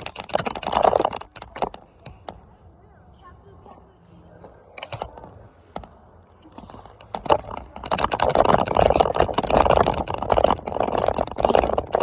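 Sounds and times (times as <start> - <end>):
rattling and clattering: 0.0 - 2.4, 4.7 - 12.0
vehicle low rumble: 0.0 - 12.0.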